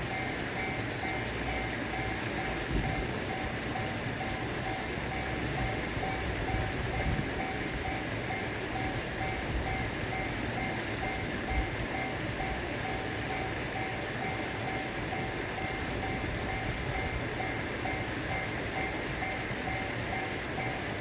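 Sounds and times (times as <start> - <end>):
continuous low rumble: 0.0 - 21.0
level-crossing alarm ringing: 0.0 - 21.0.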